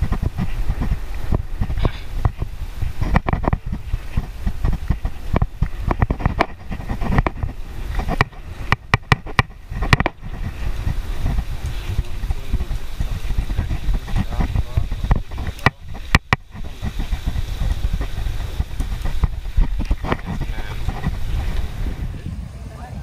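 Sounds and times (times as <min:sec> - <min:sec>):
bicycle rattling over bumps: 0:00.0 - 0:22.4
wind buffeting microphone: 0:00.0 - 0:23.0.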